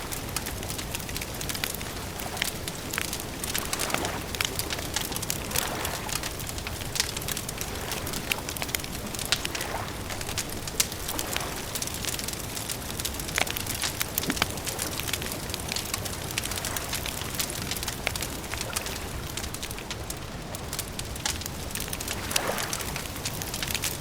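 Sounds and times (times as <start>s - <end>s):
wood fire crackling: 0.0s - 24.0s
sharp pops and snaps: 0.1s - 24.0s.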